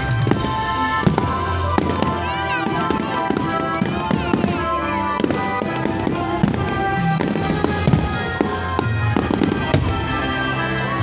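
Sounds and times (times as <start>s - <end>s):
fireworks bangs: 0.0s - 11.0s
loud music: 0.0s - 11.0s.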